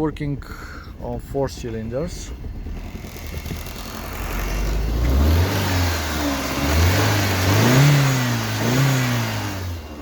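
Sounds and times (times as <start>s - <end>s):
car engine running rough: 1.6s - 10.0s.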